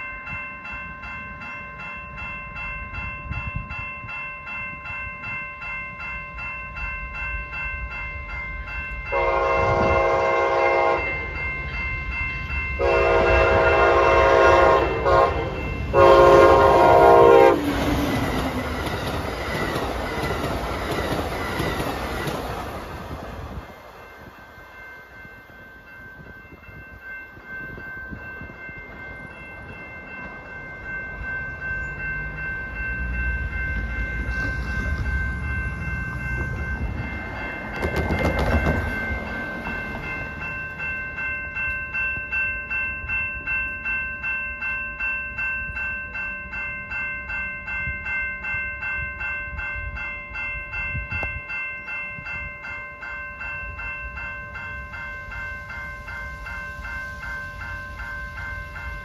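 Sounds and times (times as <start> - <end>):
passenger train rumbling past: 0.0 - 59.0
railroad crossing bell ringing: 0.0 - 59.0.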